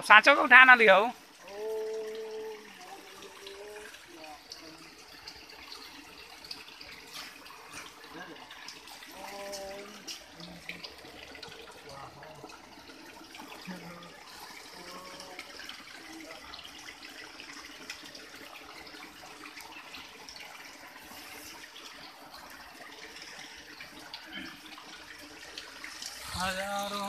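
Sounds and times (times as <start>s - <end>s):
water splashing from spouts: 0.0s - 27.0s.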